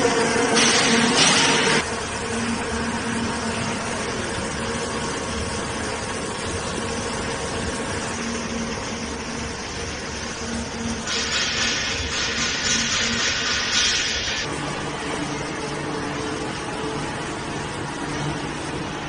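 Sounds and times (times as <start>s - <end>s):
roller mill humming: 0.0s - 19.0s.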